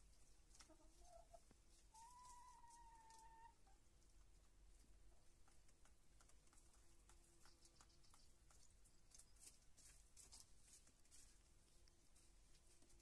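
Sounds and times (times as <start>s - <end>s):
hens pecking and scratching: 0.0s - 13.0s.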